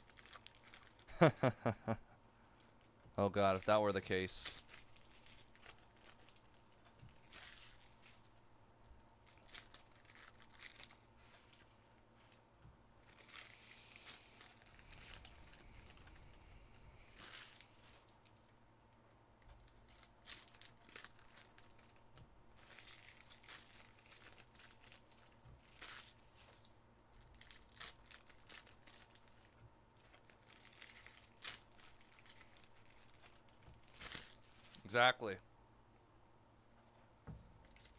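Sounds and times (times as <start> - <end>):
wrappers crinkling and tearing: 0.0 - 1.5, 2.5 - 8.5, 9.1 - 18.6, 19.5 - 34.9, 37.6 - 37.9.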